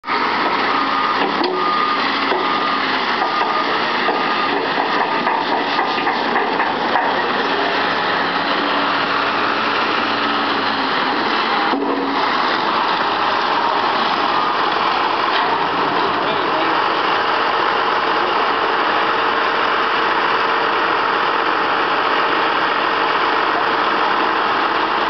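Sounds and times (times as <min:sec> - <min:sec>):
heavy truck engines running: 0:00.0 - 0:25.0.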